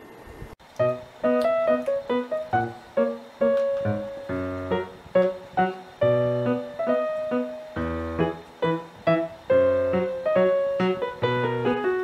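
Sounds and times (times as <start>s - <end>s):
bouncy keyboard tune with bass: 0.8s - 12.0s.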